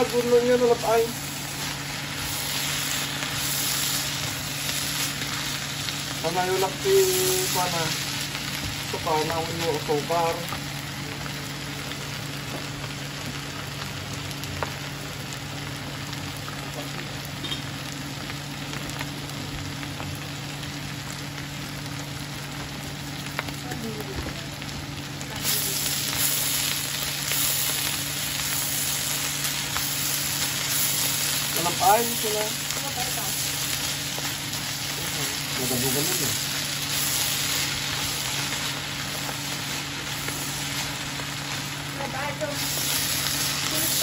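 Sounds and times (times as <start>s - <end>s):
bamboo shoots sizzling in pan: 0.0s - 44.0s
steady low hum: 0.0s - 44.0s.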